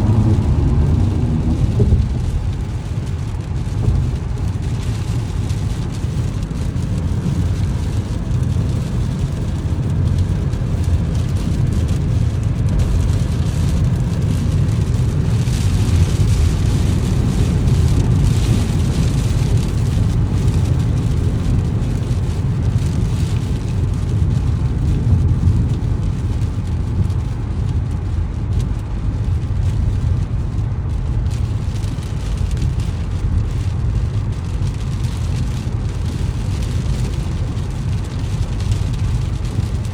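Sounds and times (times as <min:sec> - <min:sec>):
hiss of rain and spray: 0:00.0 - 0:39.9
tyres and engine rumble: 0:00.0 - 0:39.9.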